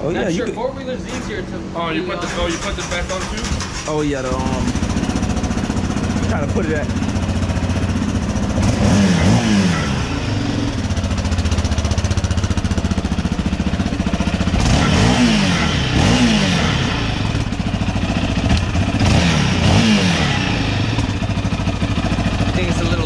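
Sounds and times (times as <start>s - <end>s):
engine idling and revving: 0.0s - 23.0s.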